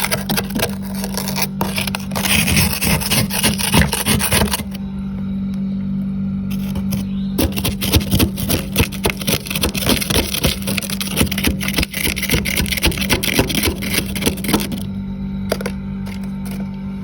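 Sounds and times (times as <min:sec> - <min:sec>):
scraping freezer frost: 0:00.0 - 0:04.8, 0:06.5 - 0:14.9, 0:15.5 - 0:17.0
steady low hum: 0:00.0 - 0:17.0.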